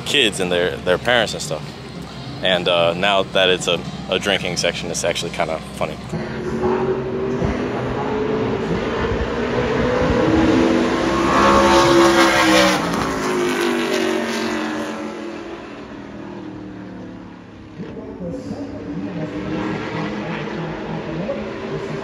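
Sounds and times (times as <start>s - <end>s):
race truck engine passing: 0.0s - 22.0s.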